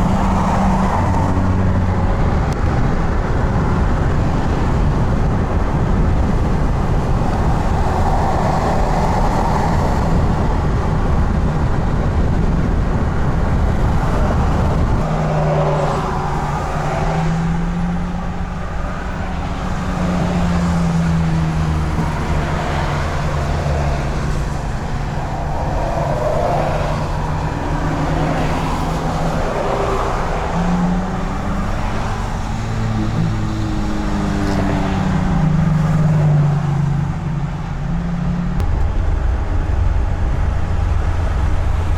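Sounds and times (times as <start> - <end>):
engine drone: 0.0 - 41.9
road noise rumble: 0.0 - 41.9.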